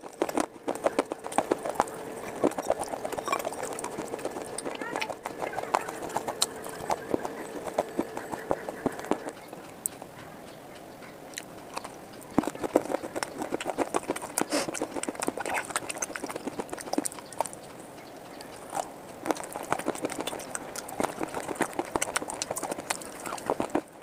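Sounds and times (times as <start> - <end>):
crunching clay in the mouth: 0.0 - 9.4, 11.3 - 17.7, 18.4 - 24.0.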